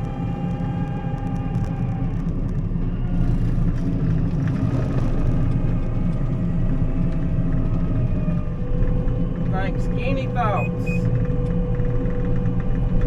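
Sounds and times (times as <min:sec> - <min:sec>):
combine harvester engine rumble: 0:00.0 - 0:13.0.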